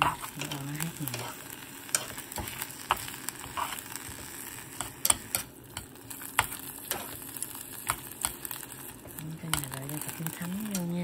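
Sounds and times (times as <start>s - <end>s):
meat and onions sizzling in pot: 0.0s - 11.0s.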